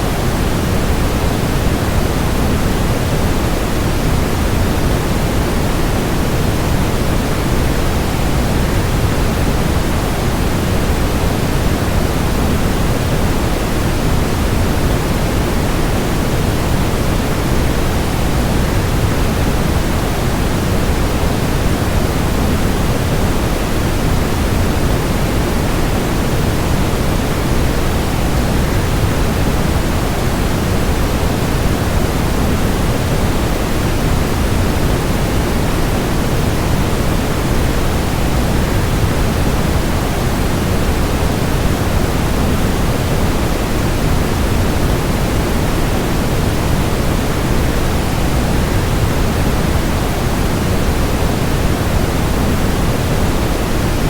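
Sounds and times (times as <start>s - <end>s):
waterfall with white noise: 0.0s - 54.0s.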